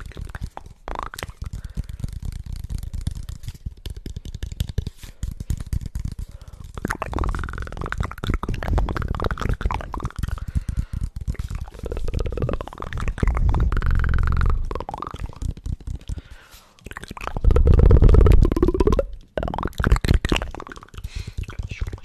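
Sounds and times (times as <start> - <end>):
gurgling mouth tones: 0.0 - 3.0, 6.3 - 22.0
wet mouth clicks and smacks: 0.0 - 22.0.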